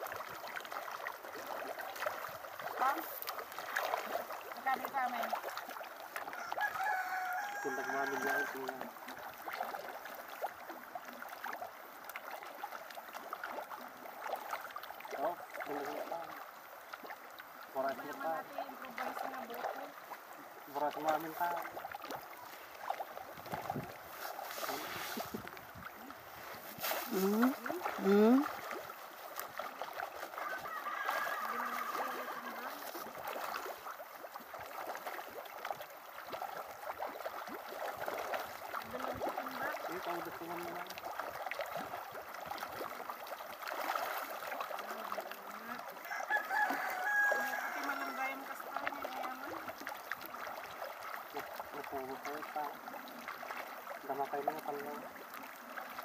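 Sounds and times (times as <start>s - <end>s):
pond water splashing and lapping: 0.0s - 56.0s.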